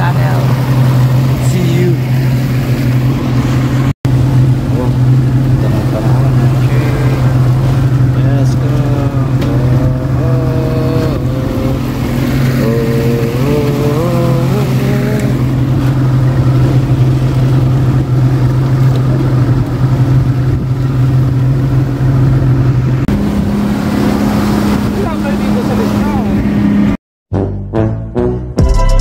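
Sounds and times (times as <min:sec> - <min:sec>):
boat motor droning: 0:00.0 - 0:27.0
rushing wind: 0:00.0 - 0:27.0
water noise: 0:00.0 - 0:27.0.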